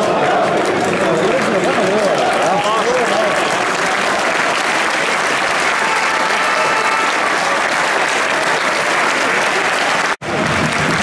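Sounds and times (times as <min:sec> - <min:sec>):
stadium crowd cheering and clapping: 0:00.0 - 0:11.0.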